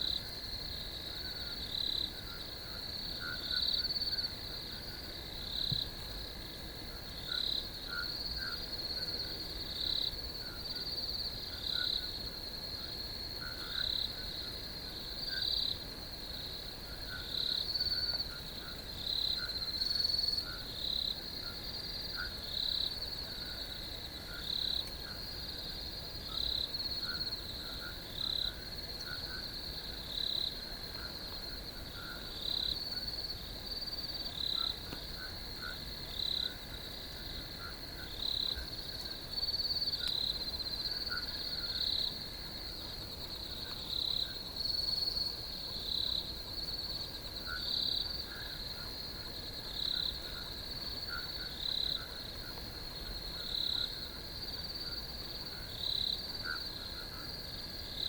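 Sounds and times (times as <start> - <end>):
crickets chirping: 0.0 - 58.0
low pulsing insect call: 0.0 - 58.0.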